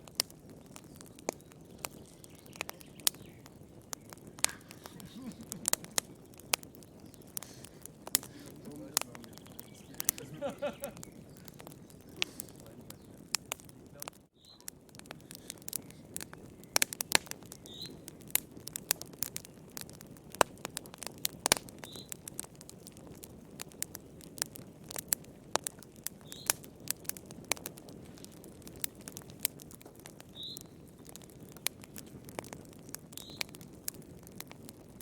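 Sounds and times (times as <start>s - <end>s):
rush of flame: 0.0s - 14.2s, 14.9s - 35.0s
wood fire crackling: 0.0s - 35.0s.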